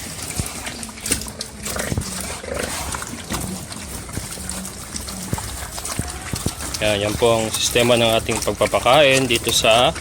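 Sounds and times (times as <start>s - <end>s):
pigs grunting: 0.0s - 10.0s.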